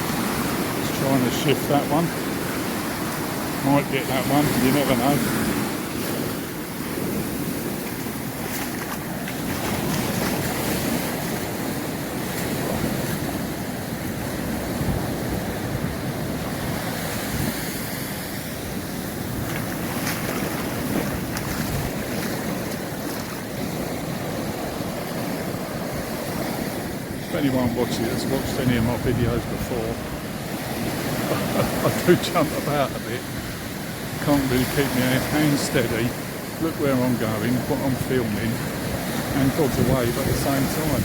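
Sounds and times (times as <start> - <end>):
wind rumbling on microphone: 0.0 - 36.7, 37.3 - 41.0
surf washing onto beach: 0.0 - 41.0.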